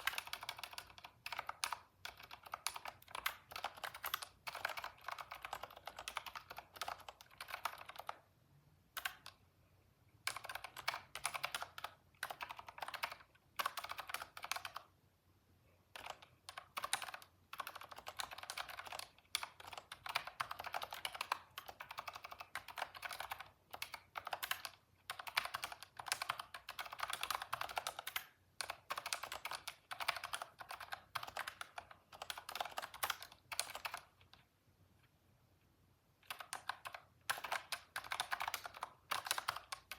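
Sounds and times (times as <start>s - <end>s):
keyboard typing: 0.0s - 8.3s, 8.9s - 9.4s, 10.2s - 14.9s, 15.9s - 34.5s, 36.2s - 39.9s.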